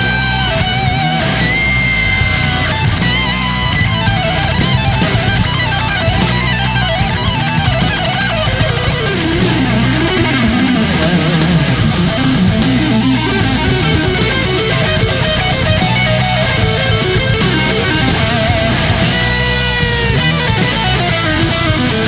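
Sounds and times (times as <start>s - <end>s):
drum hits: 0.0s - 22.0s
low rhythm guitar: 0.0s - 22.0s
wavering lead guitar: 0.0s - 22.0s.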